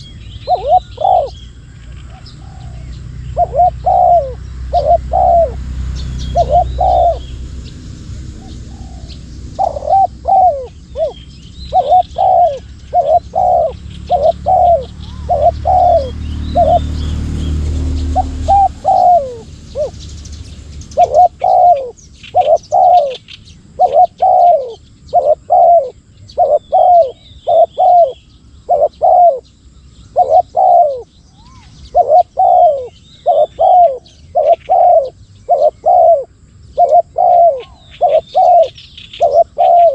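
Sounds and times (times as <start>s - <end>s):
doves cooing: 0.0s - 7.6s, 8.2s - 29.5s, 30.1s - 39.9s
small birds chirping: 0.0s - 39.9s.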